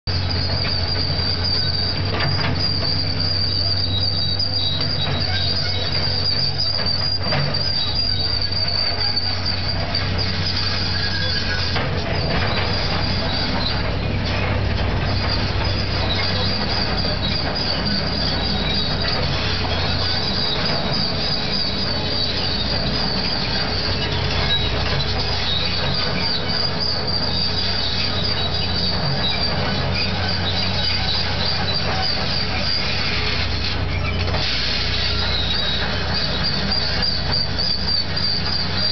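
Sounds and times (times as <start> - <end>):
excavator diesel engine running: 0.1 - 38.9
high-pitched track squeal: 0.1 - 38.9.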